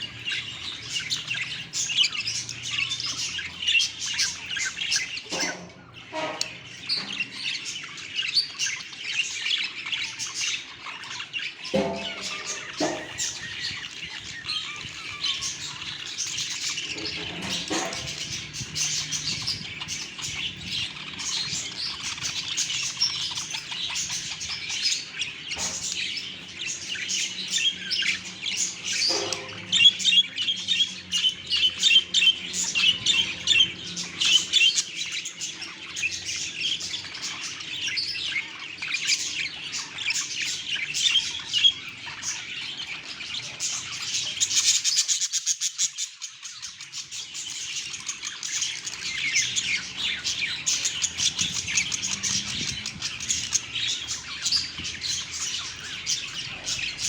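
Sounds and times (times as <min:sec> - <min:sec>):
budgerigars chattering: 0:00.0 - 0:57.0.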